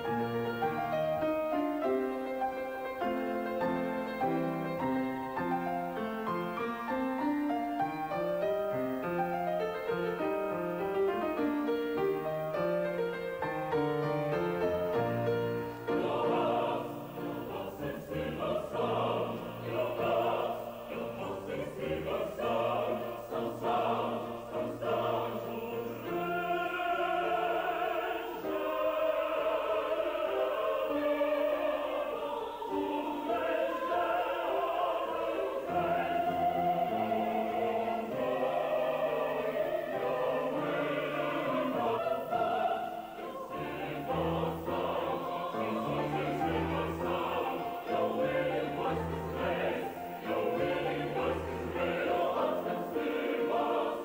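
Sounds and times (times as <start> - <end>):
mixed choir singing: 0.0 - 54.0
piano playing: 0.0 - 54.0.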